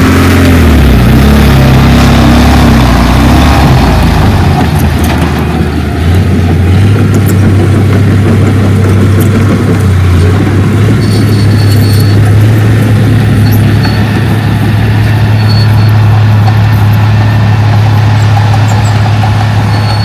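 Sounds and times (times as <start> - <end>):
heavy machinery diesel engine humming: 0.0 - 20.0.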